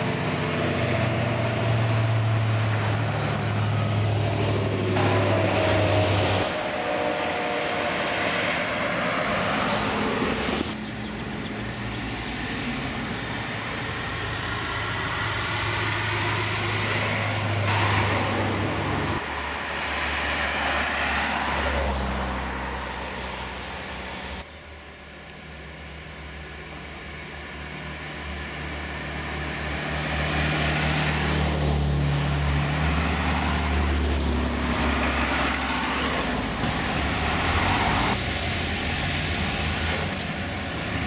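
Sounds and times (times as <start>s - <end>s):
cars driving past: 0.0s - 24.9s, 25.5s - 41.0s
tyre and road noise: 0.0s - 41.0s.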